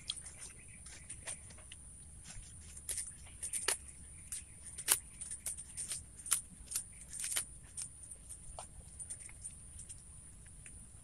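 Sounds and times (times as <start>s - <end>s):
leaves snapping and being chewed: 0.0s - 10.0s.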